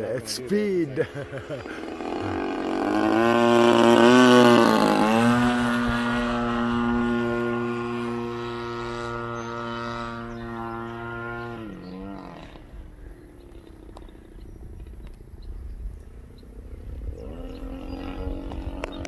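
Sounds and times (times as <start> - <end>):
model airplane engine buzzing: 0.0 - 19.0.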